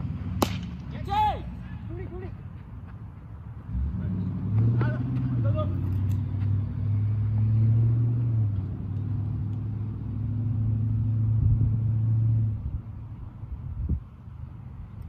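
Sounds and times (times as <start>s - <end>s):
engine running low hum: 0.0s - 15.0s.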